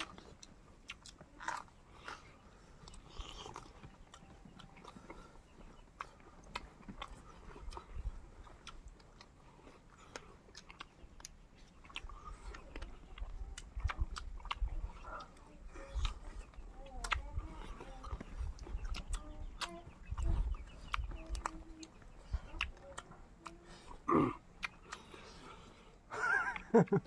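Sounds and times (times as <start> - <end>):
person chewing: 0.0 - 27.0.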